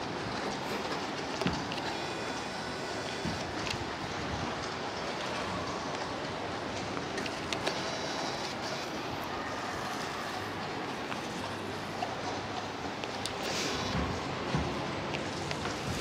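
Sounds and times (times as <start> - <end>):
street ambience: 0.0 - 16.0.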